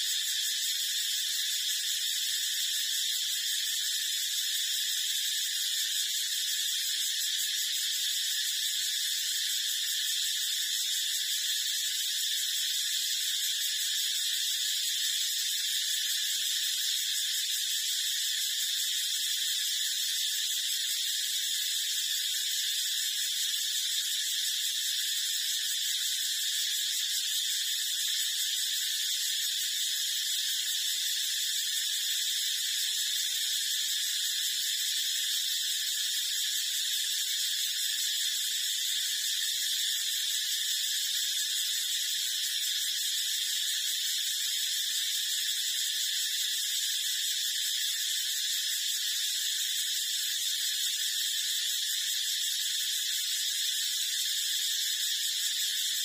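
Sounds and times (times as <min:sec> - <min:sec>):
high-pitched buzzing hiss: 0:00.0 - 0:56.0.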